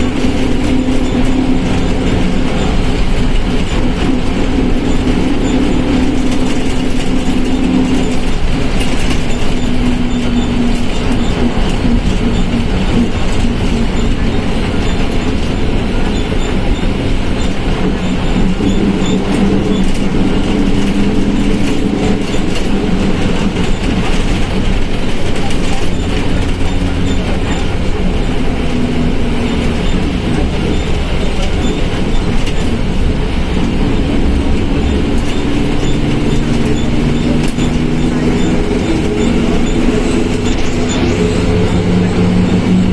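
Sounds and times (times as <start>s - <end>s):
diesel bus engine rumbling: 0.0s - 42.9s.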